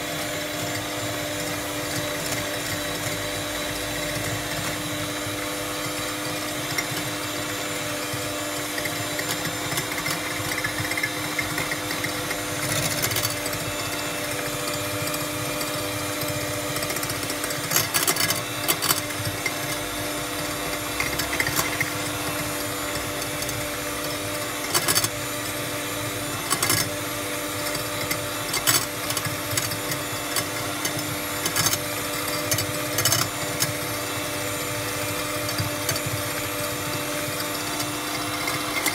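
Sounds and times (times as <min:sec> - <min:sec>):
electric hand mixer running: 0:00.0 - 0:38.9
mixer beaters clacking on bowl: 0:00.0 - 0:38.9.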